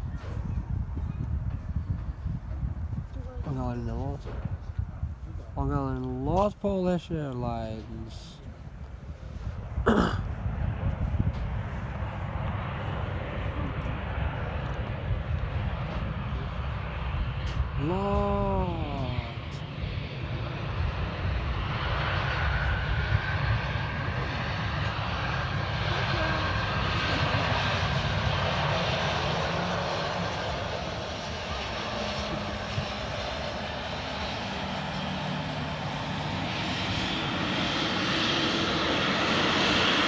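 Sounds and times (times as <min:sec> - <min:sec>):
airliner engines rumbling: 0:00.0 - 0:40.0.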